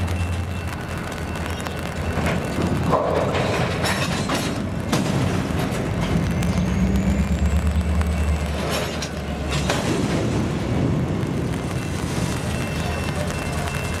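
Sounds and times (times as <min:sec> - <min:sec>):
diesel locomotive engine rumble: 0:00.0 - 0:14.0
train clanks: 0:00.0 - 0:14.0.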